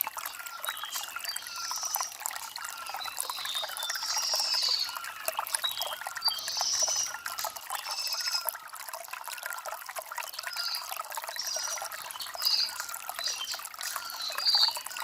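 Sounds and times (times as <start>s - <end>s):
stream trickling over stones: 0.0s - 15.0s
birds chirping: 0.4s - 8.5s, 10.4s - 15.0s.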